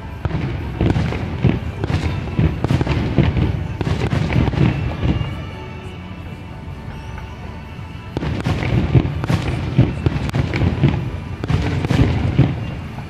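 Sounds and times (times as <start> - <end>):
fireworks booming: 0.0 - 5.9, 8.0 - 13.0.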